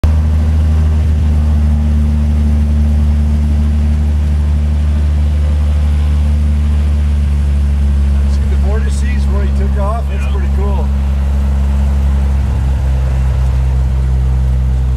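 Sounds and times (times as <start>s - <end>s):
propeller plane engine drone: 0.0s - 14.9s.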